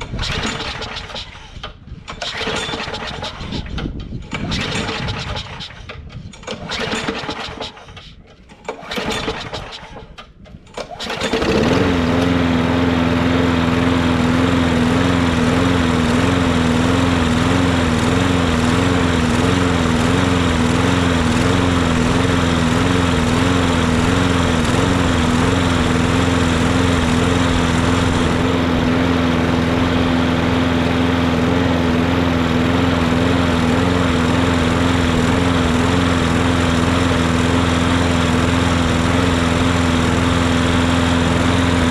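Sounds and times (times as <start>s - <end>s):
lawn mower engine pull-started: 0.0s - 41.9s
lawn mower engine running: 0.0s - 41.9s.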